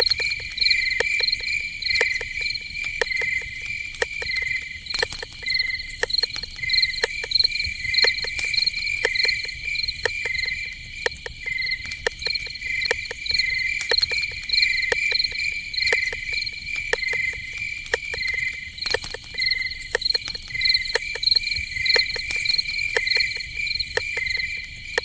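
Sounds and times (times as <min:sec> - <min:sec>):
crickets chirping: 0:00.0 - 0:25.0
sharp clicks and ticks: 0:00.0 - 0:25.0.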